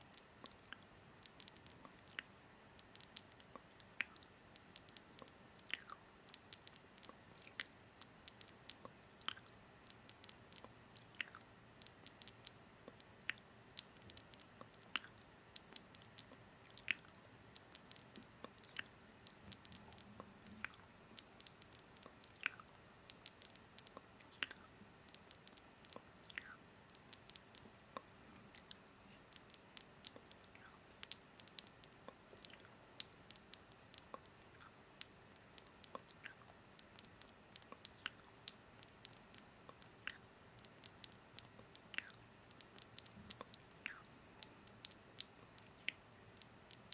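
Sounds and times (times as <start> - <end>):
chewing clicks: 0.0 - 46.9.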